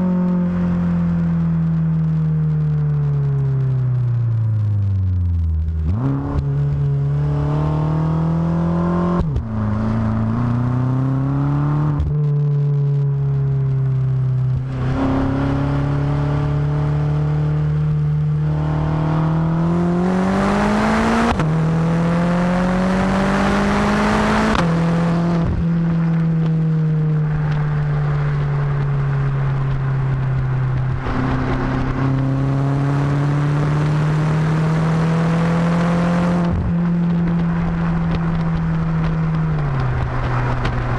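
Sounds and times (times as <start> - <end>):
car engine accelerating through gears: 0.0 - 40.9.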